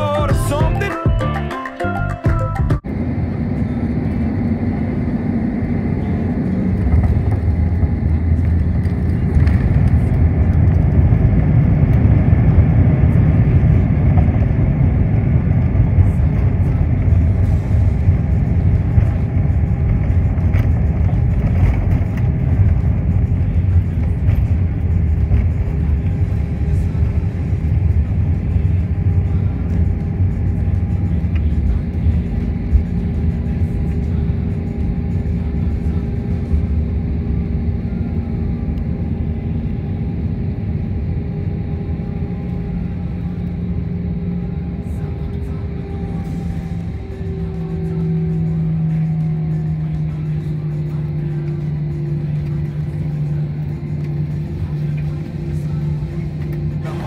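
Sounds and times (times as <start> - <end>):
airliner cabin engine rumble: 0.0 - 1.2, 2.2 - 57.0.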